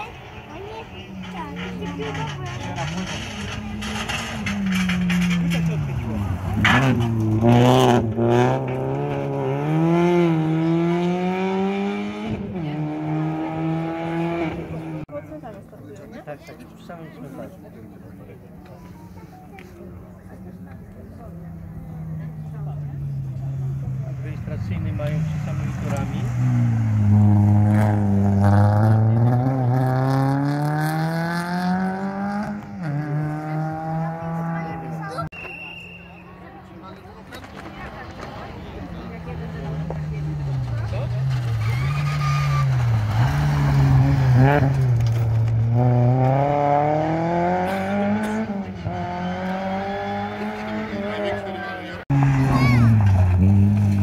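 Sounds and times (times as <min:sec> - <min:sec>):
rally car engine accelerating: 0:00.0 - 0:15.1, 0:20.8 - 0:35.3, 0:37.0 - 0:54.0.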